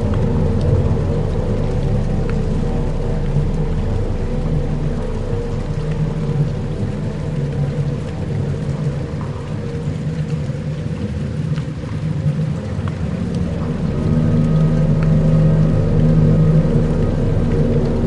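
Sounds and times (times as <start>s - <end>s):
dark ambient music: 0.0s - 18.0s
low sustained drones: 0.0s - 18.0s
rumbling rain-like texture: 0.0s - 18.0s.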